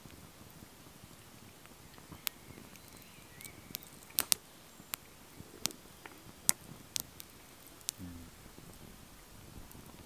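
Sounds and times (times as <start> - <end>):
sharp pops from fire: 0.0 - 10.0
wood fire crackling: 0.0 - 10.0.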